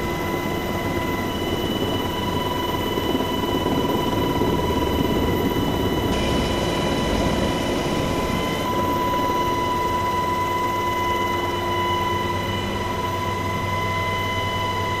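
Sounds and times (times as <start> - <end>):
helicopter engines and rotor drone: 0.0 - 15.0
high-pitched whine: 0.0 - 15.0.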